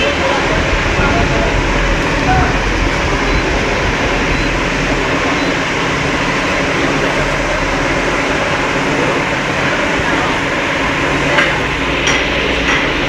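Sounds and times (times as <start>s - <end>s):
conveyor machinery running: 0.0s - 13.0s
low rumble: 0.0s - 13.0s.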